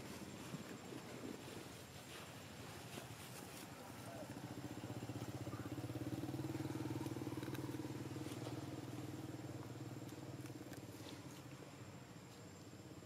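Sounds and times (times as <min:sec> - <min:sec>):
engine humming: 0:02.2 - 0:13.0.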